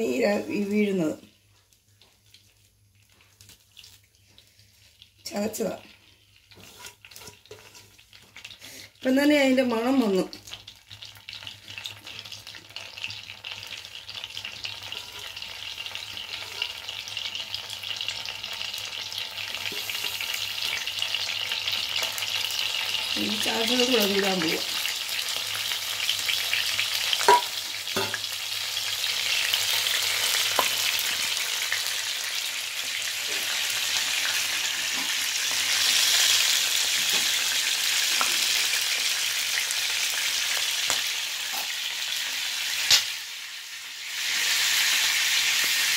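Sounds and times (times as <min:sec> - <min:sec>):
leaves frying in hot oil: 0:00.0 - 0:45.9.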